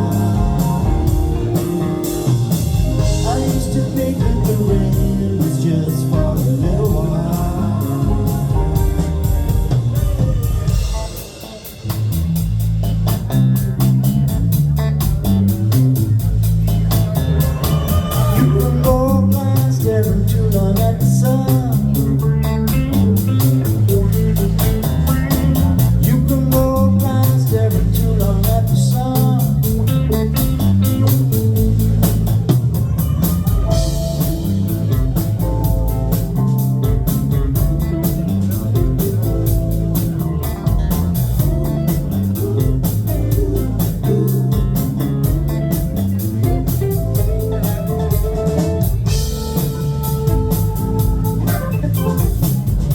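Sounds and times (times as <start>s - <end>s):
drum kit beat: 0.0s - 52.9s
electric bass line: 0.0s - 52.9s
guitar: 0.0s - 52.9s
keyboards: 0.0s - 52.9s.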